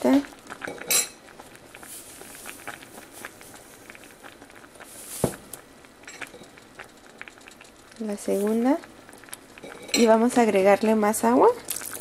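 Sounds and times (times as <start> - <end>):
pot of beans boiling: 0.0 - 12.0.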